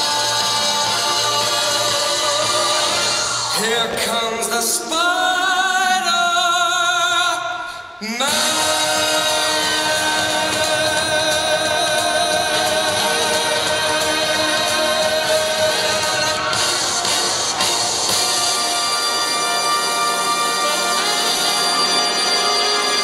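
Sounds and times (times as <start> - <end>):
voices singing held chords: 0.0 - 6.3, 7.8 - 23.0.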